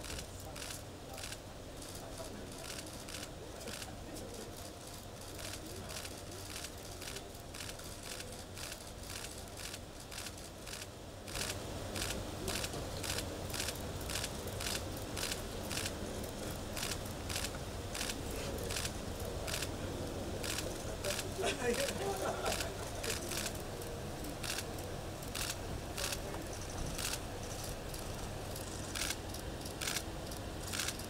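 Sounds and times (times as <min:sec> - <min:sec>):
camera shutters clicking rapidly: 0:00.0 - 0:16.0, 0:16.8 - 0:19.7, 0:20.4 - 0:31.0.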